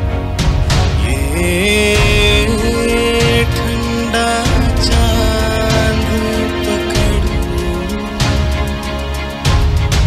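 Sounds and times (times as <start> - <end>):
lounge music with bass beat: 0.0 - 10.0.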